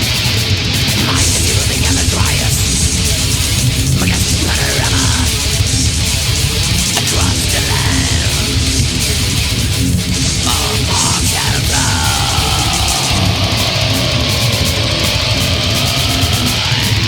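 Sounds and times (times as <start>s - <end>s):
distorted guitars: 0.0s - 17.0s
fast drumming with cymbals: 0.0s - 17.0s.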